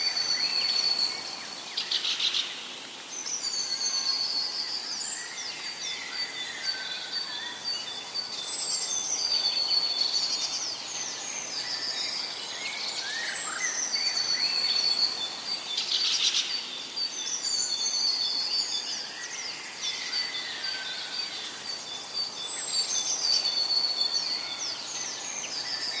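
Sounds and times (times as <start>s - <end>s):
birds singing and calling: 0.0s - 26.0s.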